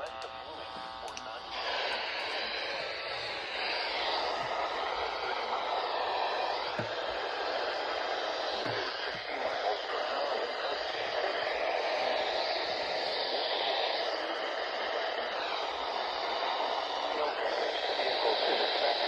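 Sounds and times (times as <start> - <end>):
faint radio broadcast: 0.0 - 19.0
radio static hiss: 0.0 - 19.0.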